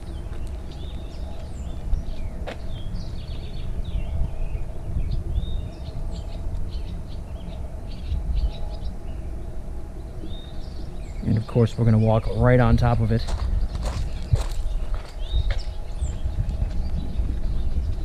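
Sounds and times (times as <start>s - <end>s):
birds chirping: 0.0s - 18.0s
low rumble: 0.0s - 18.0s.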